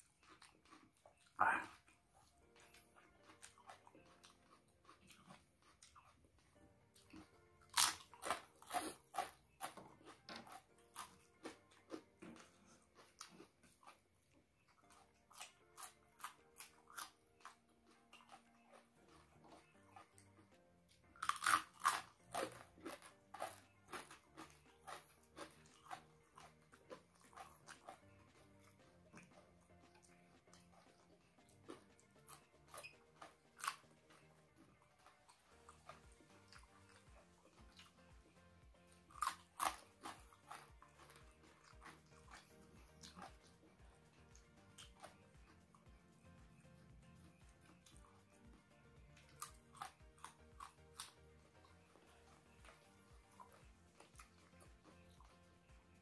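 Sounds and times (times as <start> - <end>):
chewing: 0.0 - 56.0
crunchy bites: 0.0 - 56.0
faint background music: 0.0 - 56.0.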